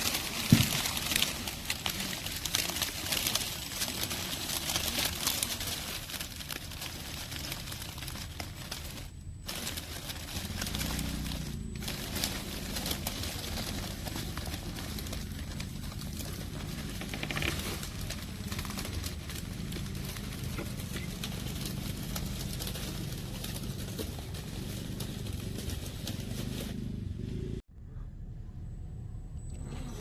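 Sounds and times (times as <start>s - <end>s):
tyres crackling on gravel: 0.0s - 27.6s
low motor hum: 0.0s - 30.0s.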